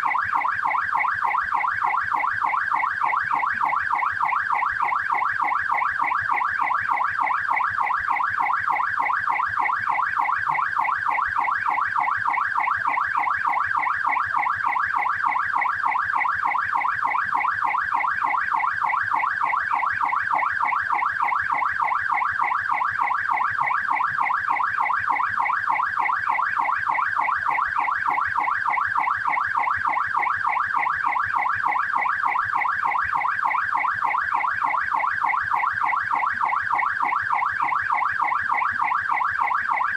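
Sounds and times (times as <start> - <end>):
police siren yelping: 0.0 - 39.9.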